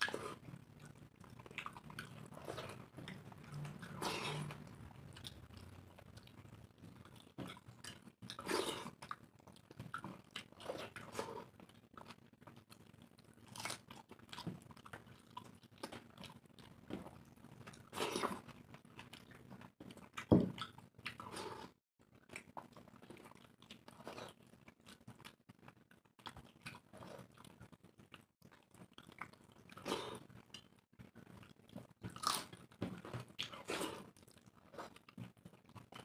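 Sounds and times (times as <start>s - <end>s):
chewing and mouth sounds: 0.0s - 36.0s.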